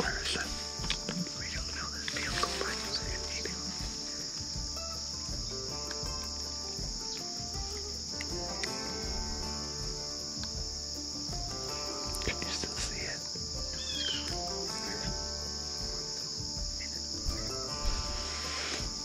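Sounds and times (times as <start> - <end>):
background music held notes: 0.0 - 19.0
crickets chorus: 0.0 - 19.0.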